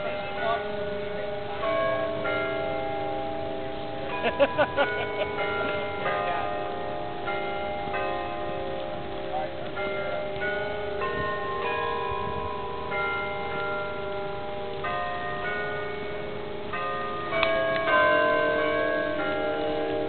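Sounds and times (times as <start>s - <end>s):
bells ringing: 0.0s - 20.0s.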